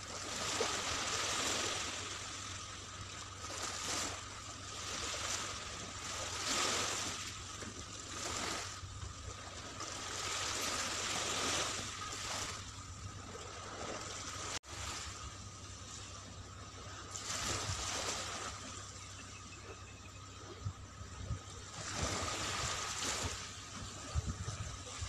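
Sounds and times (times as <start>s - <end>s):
waves breaking on beach: 0.0s - 25.0s.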